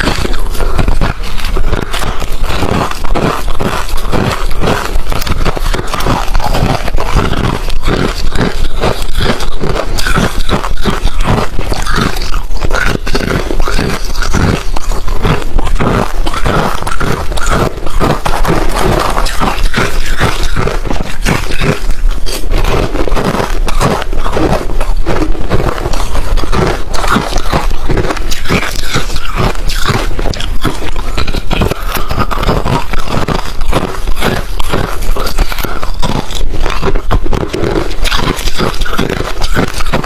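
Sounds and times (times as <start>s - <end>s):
crunching ice: 0.0s - 40.0s
steady low hum: 0.0s - 40.0s.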